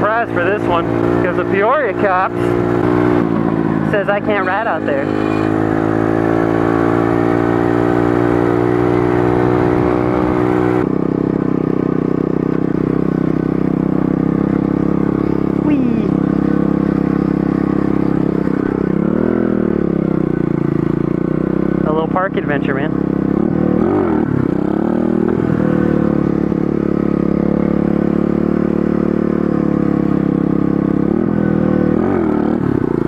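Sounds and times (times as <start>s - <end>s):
pit bike engine running: 0.0s - 33.0s.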